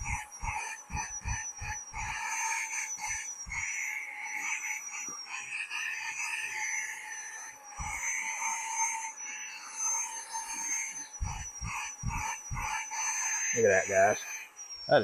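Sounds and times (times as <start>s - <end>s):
vacuum motor whine: 0.0s - 15.0s.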